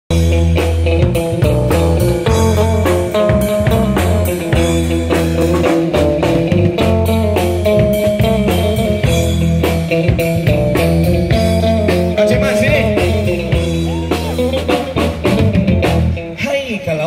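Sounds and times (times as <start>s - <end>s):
drum kit steady beat: 0.1s - 16.3s
bass guitar: 0.1s - 17.0s
guitar melody: 0.1s - 17.0s.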